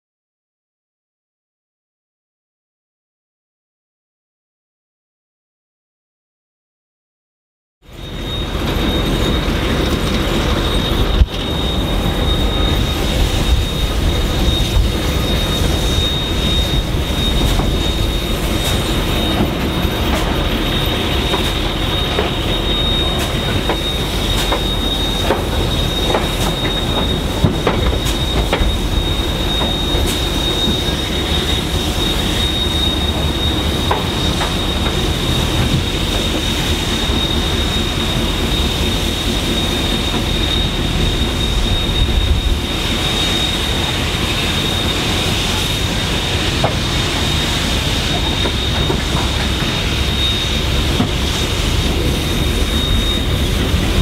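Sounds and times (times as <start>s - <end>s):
train carriages rumbling: 7.8s - 54.0s
high-pitched wheel squeal: 7.9s - 54.0s.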